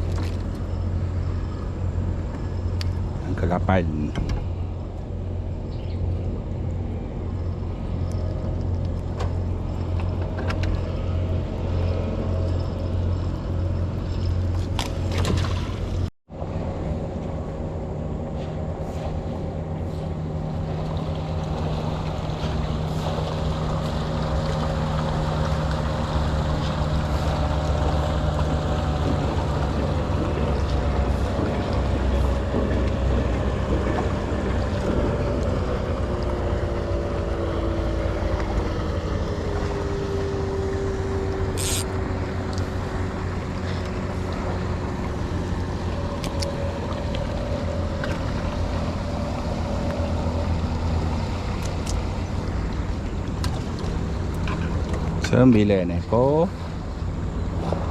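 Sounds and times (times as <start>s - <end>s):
boat engine humming: 0.0s - 57.9s.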